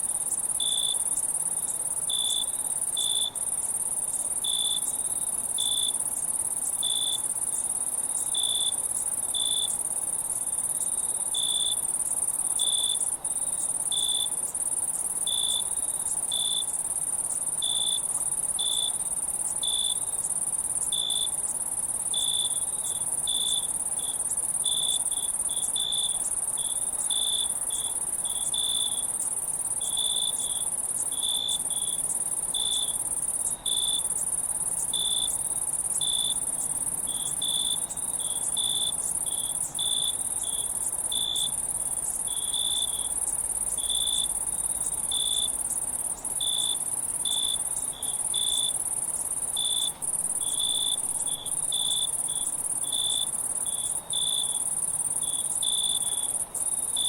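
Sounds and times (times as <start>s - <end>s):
insect chirps: 0.0s - 57.0s
insects droning: 0.0s - 57.0s.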